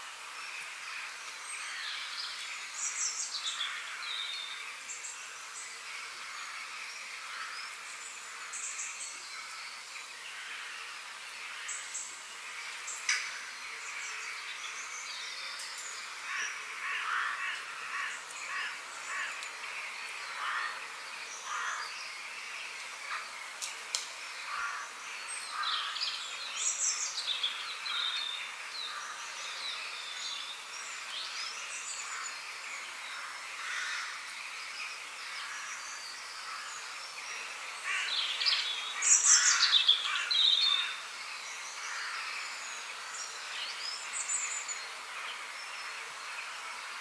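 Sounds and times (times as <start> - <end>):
outdoor background hiss: 0.0 - 47.0
birds chirping: 0.6 - 47.0.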